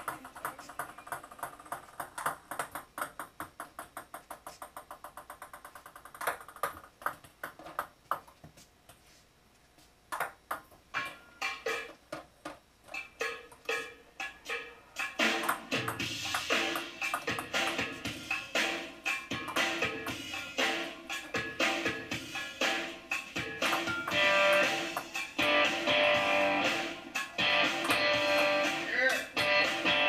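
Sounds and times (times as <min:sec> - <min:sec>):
table tennis balls clicking: 0:00.0 - 0:09.0, 0:10.1 - 0:18.0, 0:18.6 - 0:20.3, 0:23.2 - 0:26.1, 0:27.2 - 0:30.0.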